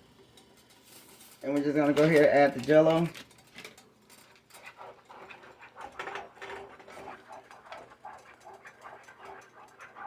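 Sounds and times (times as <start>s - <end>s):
utensil clicking and scraping pan: 0.4s - 10.0s.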